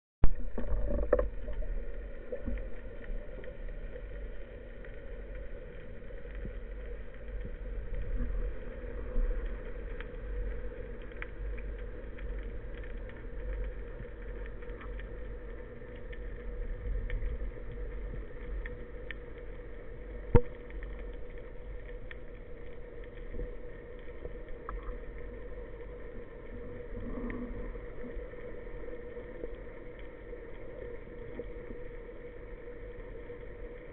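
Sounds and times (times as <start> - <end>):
muffled underwater rumble: 0.2 - 33.9
steady hum: 0.2 - 33.9
faint ticks: 0.3 - 33.9.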